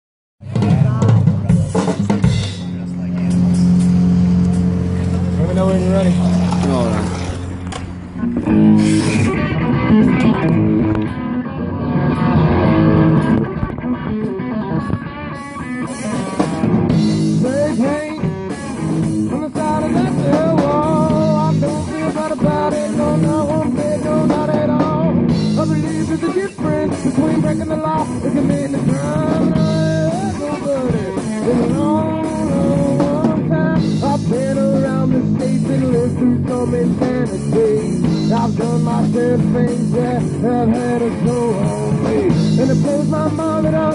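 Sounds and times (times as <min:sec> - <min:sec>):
drum kit: 0:00.4 - 0:11.4, 0:12.0 - 0:43.9
amplified electric guitar: 0:00.4 - 0:43.9.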